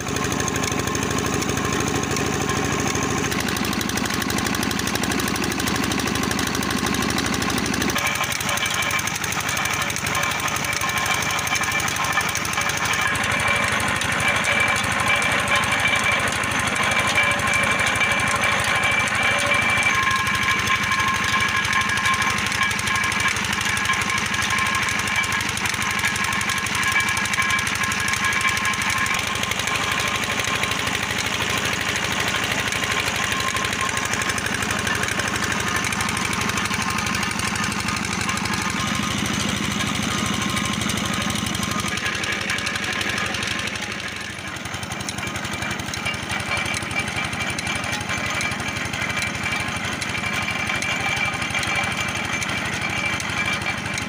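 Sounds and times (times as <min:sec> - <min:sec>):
engine knocking: 0:00.0 - 0:54.0
gears and rollers clattering: 0:00.0 - 0:54.0.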